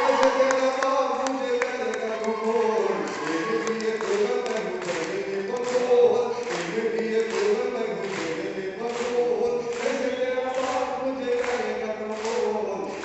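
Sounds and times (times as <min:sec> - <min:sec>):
man singing over a pa: 0:00.0 - 0:13.0.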